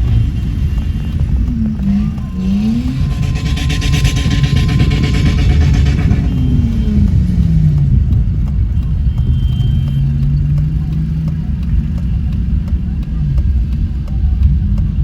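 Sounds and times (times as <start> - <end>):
car engine revving: 0.0 - 15.0
low rumble of moving vehicle: 0.0 - 15.0.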